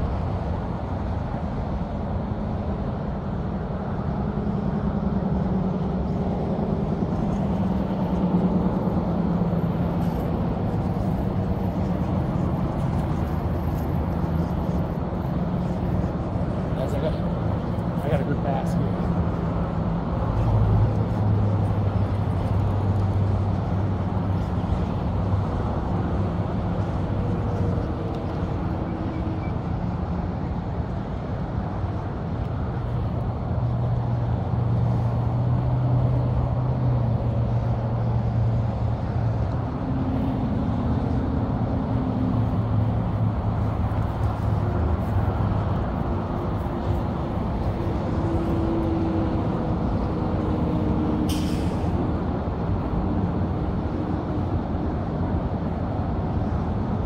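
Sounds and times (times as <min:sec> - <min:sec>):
highway traffic rumble: 0:00.0 - 0:57.0.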